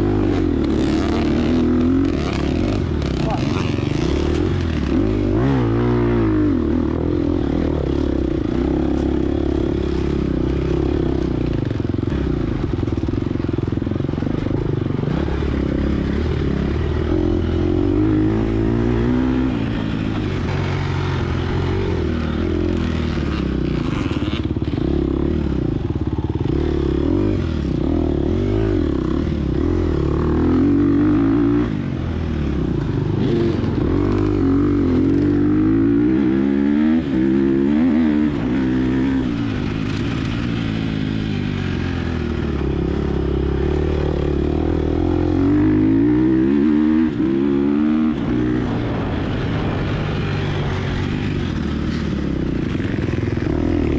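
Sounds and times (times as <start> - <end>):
dirt bike engine revving: 0.0 - 13.2, 13.8 - 53.9.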